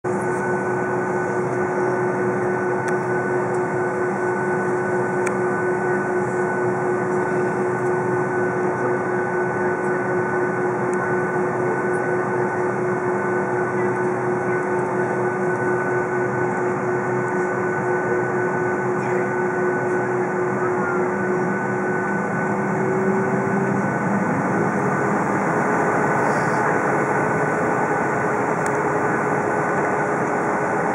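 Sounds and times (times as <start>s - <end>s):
jet engines running: 0.1s - 30.9s.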